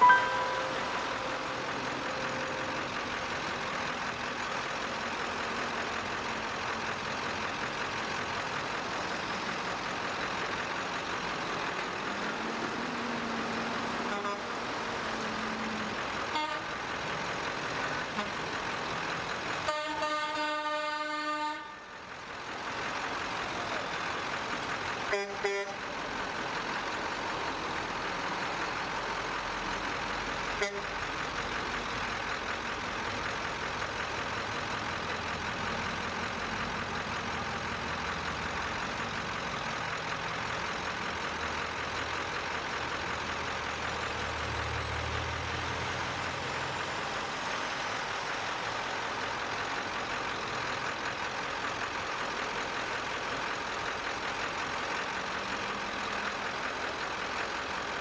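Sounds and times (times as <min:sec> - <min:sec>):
low engine rumble: 0:00.0 - 0:21.0, 0:21.6 - 0:58.0
heavy truck engines running: 0:00.0 - 0:58.0.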